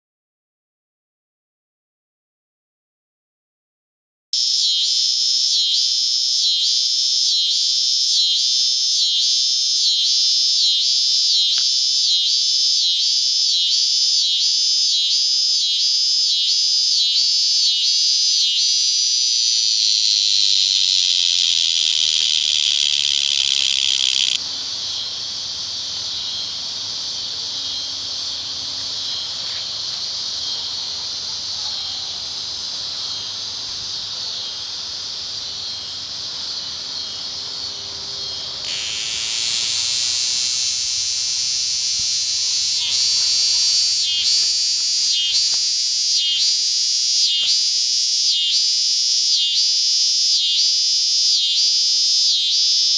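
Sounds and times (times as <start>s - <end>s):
cicadas buzzing: 4.4s - 52.9s.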